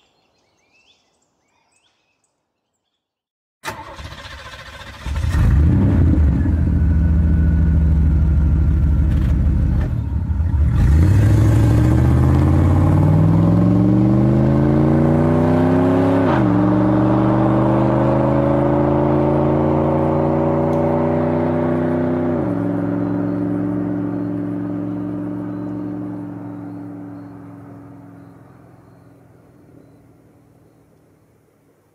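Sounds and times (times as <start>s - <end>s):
truck engine idling and accelerating: 3.7s - 31.6s.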